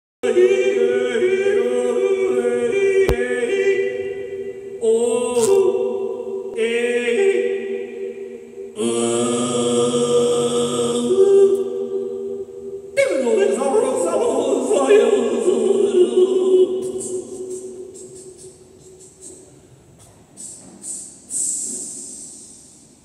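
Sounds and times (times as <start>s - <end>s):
man overtone singing: 0.2s - 19.8s.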